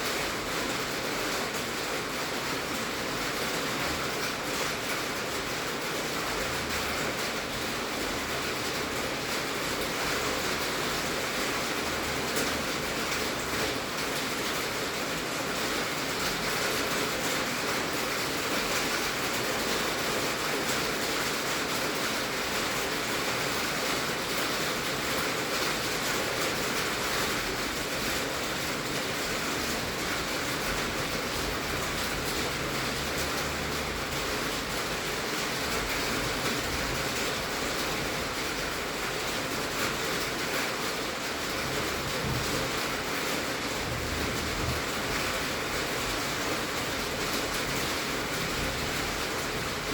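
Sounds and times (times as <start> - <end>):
heavy rain on a tin roof: 0.0 - 49.9.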